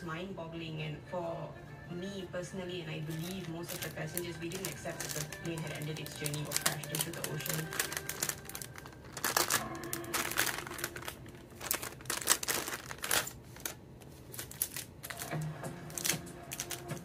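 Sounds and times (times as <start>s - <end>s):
paper and plastic wrap crinkling: 3.0s - 17.0s.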